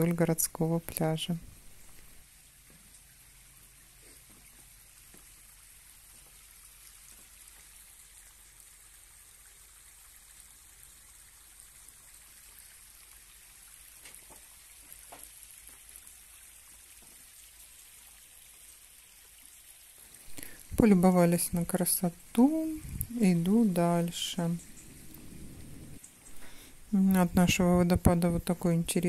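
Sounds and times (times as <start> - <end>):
small waterfall trickling: 0.0 - 29.0.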